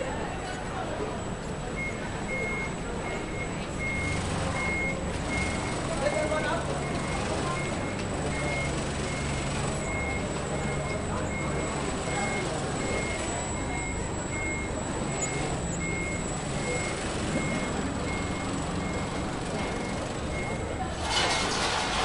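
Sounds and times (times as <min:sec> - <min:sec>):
heavy engine rumble: 0:00.0 - 0:22.0
reversing alarm beeping: 0:00.0 - 0:22.0.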